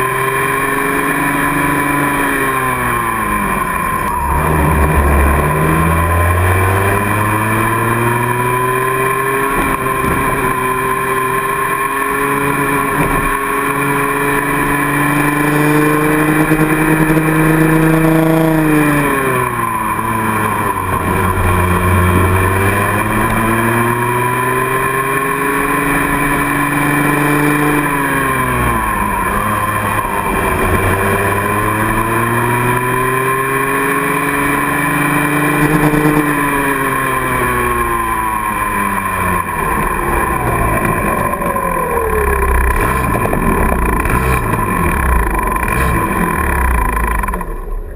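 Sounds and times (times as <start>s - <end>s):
kart engine revving: 0.0s - 47.9s.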